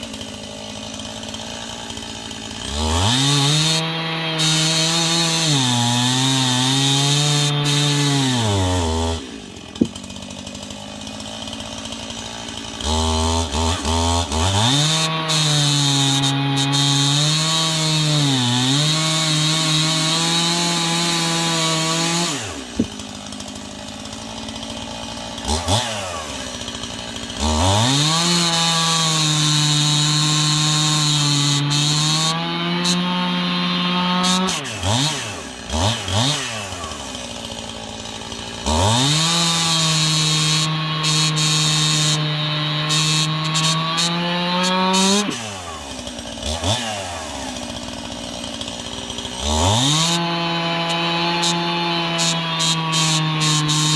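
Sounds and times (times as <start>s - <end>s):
chainsaw cutting logs: 0.0s - 53.9s.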